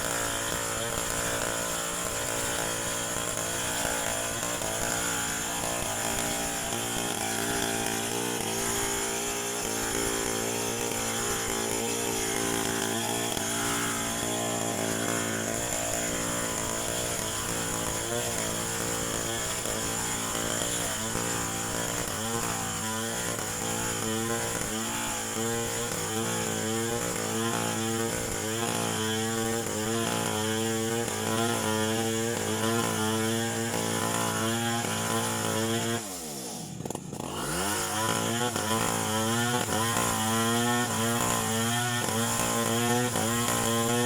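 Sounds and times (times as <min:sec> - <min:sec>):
chainsaw running: 0:00.0 - 0:44.0.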